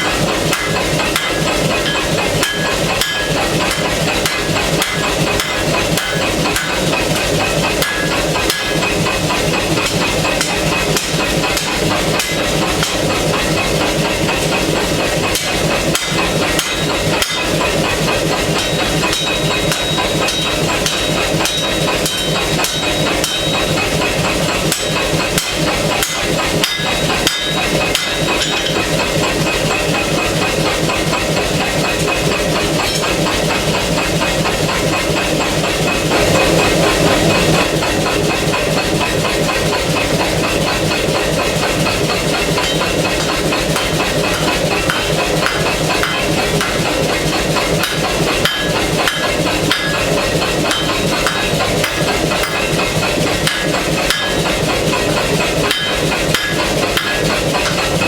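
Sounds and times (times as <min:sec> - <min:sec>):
air hammer pounding steel: 0:00.0 - 0:58.0.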